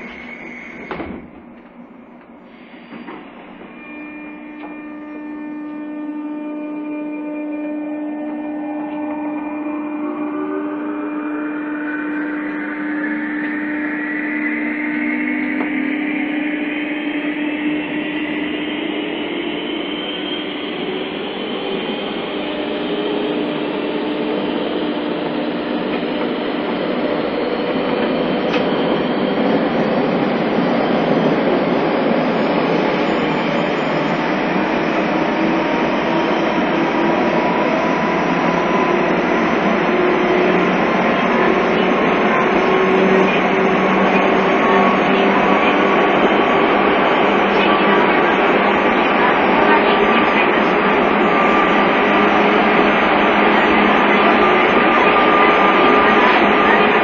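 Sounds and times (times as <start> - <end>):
electric train motor whine: 0.0 - 57.0
rail running noise: 0.0 - 57.0.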